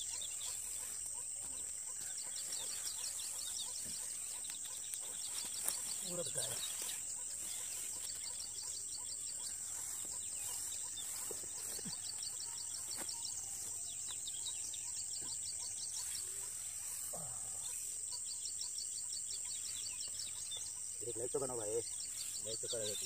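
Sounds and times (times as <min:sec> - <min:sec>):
insects buzzing: 0:00.0 - 0:23.0
rapid high chirping: 0:00.0 - 0:23.0.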